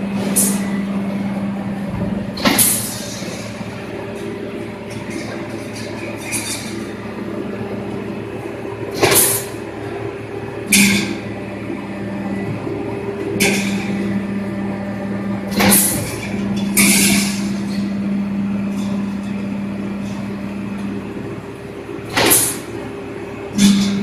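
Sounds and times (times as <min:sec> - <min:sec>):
machine motor hum: 0:00.0 - 0:24.0.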